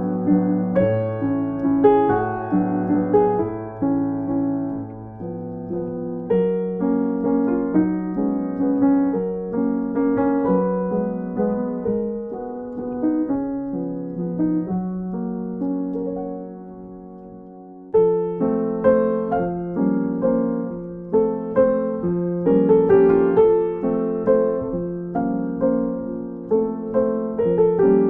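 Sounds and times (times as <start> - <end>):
gentle piano tune: 0.0 - 28.0.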